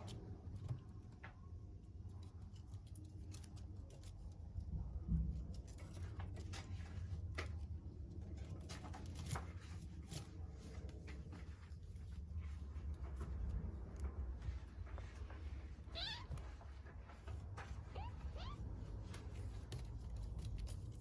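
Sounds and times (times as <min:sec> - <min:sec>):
kittens' claws scratching: 0:00.0 - 0:21.0
low steady hum: 0:00.0 - 0:21.0.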